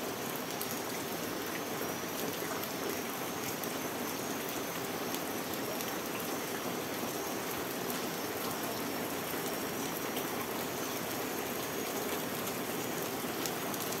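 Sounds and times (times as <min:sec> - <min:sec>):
rain on a wooden deck: 0:00.0 - 0:14.0.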